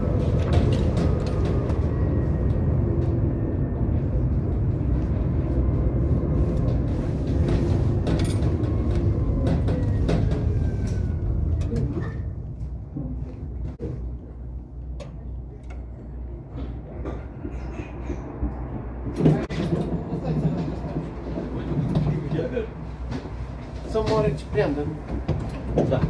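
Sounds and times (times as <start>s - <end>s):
tram rumbling along track: 0.0s - 26.0s.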